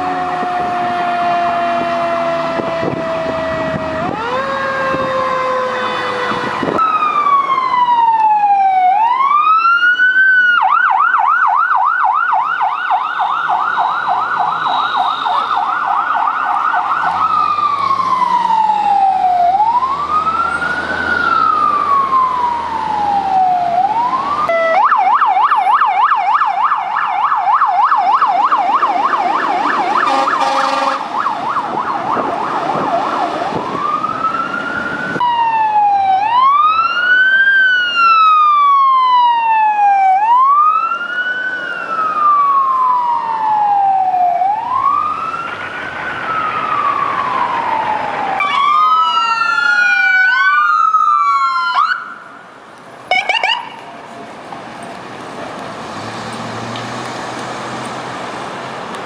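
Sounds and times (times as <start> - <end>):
electronic siren wailing: 0.0 - 52.3, 53.1 - 53.9
fast siren yelp: 0.0 - 52.4, 53.1 - 53.9.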